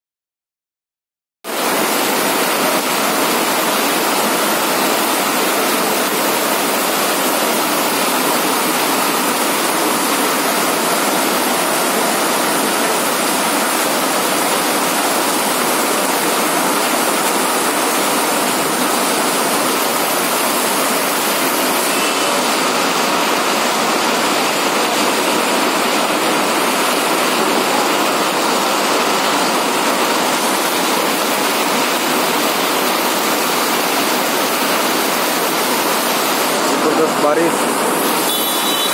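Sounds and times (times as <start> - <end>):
heavy rain pouring: 1.5 - 38.9.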